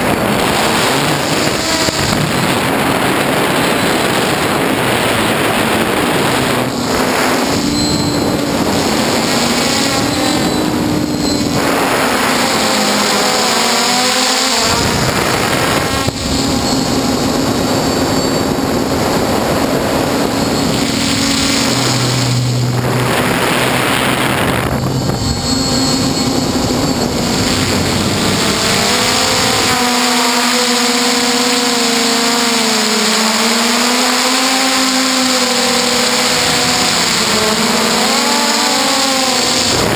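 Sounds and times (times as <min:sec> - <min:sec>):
quadcopter motors whirring: 0:00.0 - 0:39.9
rushing wind noise: 0:00.0 - 0:39.9.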